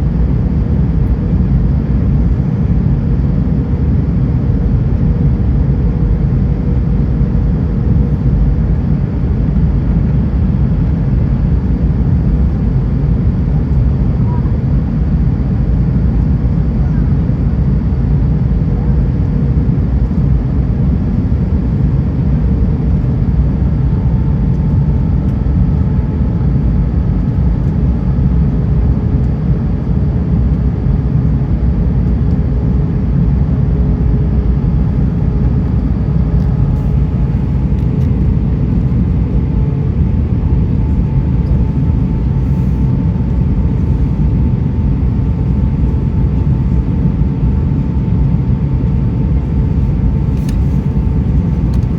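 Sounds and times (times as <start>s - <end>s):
airplane cabin engine rumble: 0.0s - 51.9s.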